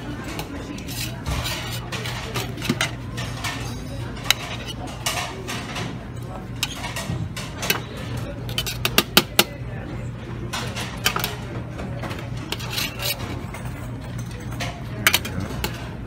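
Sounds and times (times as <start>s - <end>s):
dishes and utensils clinking: 0.0s - 9.6s, 10.3s - 16.0s
background chatter: 0.0s - 16.0s.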